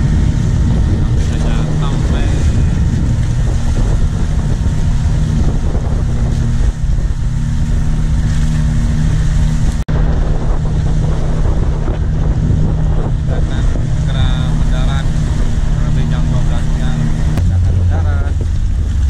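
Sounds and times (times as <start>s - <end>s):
boat engine running: 0.0s - 19.0s
wind buffeting microphone: 0.0s - 19.0s.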